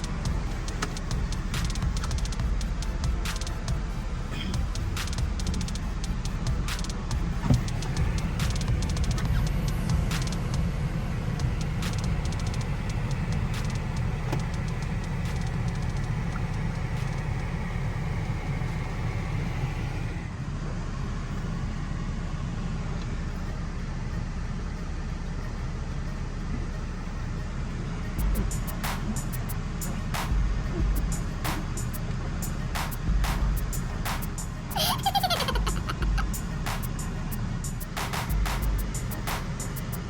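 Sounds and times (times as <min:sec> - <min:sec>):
car wash machinery rumble: 0:00.0 - 0:40.0.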